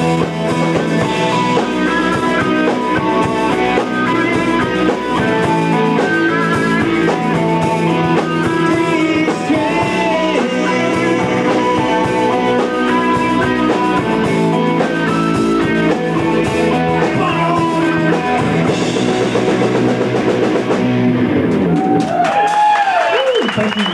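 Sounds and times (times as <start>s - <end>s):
person singing: 0.0s - 19.2s
sliding guitar notes: 0.0s - 21.8s
drum kit: 0.0s - 23.9s
electric guitars: 0.0s - 23.9s.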